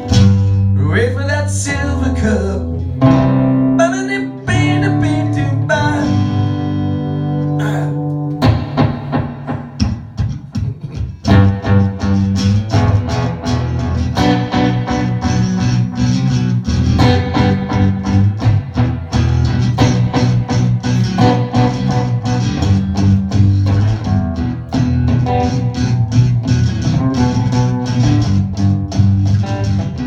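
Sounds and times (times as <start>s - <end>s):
live band playing: 0.0s - 0.7s, 5.6s - 30.0s
guitars: 0.0s - 30.0s.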